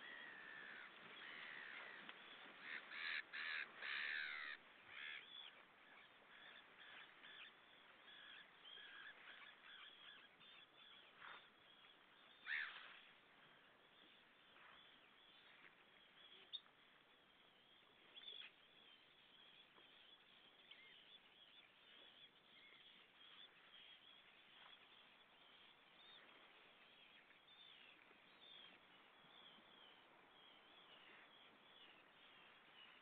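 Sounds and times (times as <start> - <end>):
faint bird calls: 0.0 - 33.0.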